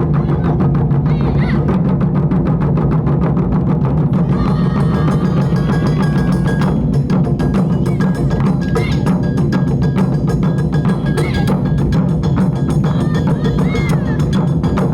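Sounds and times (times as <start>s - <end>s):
taiko drum ensemble: 0.0s - 14.9s.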